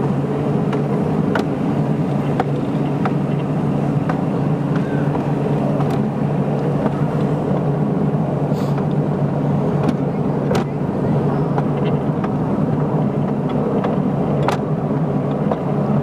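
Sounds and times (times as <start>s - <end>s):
train engine drone: 0.0s - 16.0s
wheels clicking on track: 0.0s - 16.0s.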